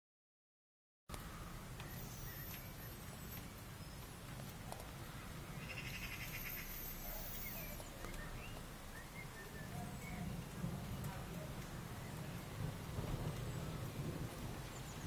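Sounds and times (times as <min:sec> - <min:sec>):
birds chirping: 0:01.1 - 0:15.0.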